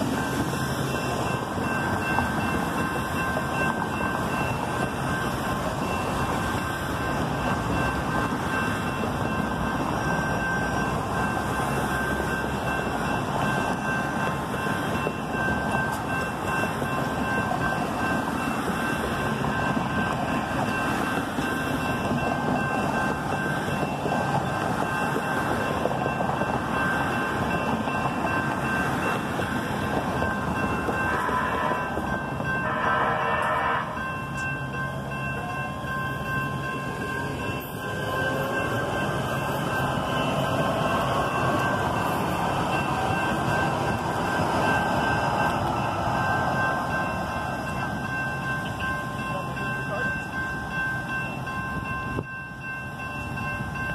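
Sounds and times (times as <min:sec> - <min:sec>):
level-crossing warning bells: 0:00.0 - 0:53.9
train passing rumble: 0:00.0 - 0:53.9.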